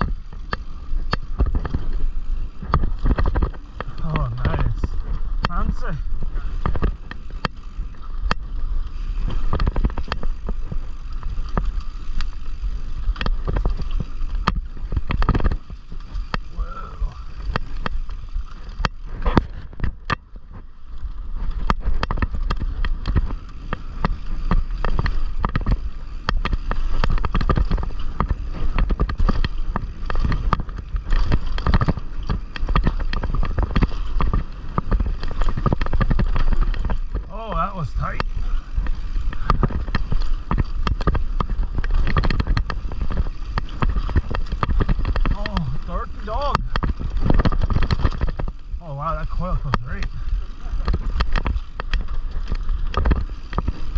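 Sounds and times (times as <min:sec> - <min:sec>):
tyres on dirt: 0:00.0 - 0:53.9
wind: 0:00.0 - 0:53.9.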